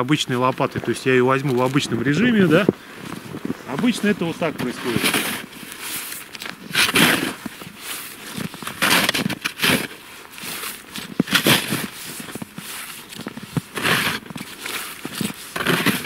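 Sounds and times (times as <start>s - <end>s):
snow shovel scraping snow: 0.8s - 16.0s.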